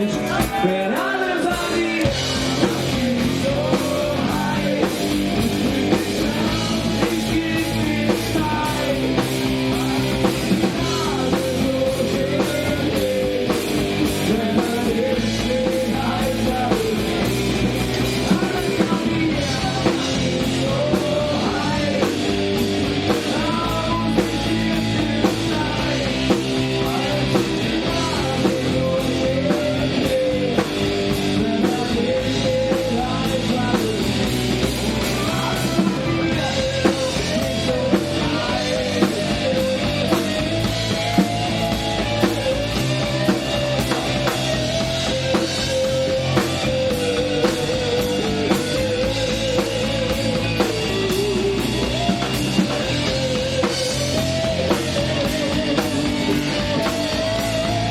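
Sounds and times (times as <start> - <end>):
bass guitar: 0.0 - 57.9
distorted electric guitars: 0.0 - 57.9
drum kit: 0.0 - 57.9
punk rock band playing: 0.0 - 57.9.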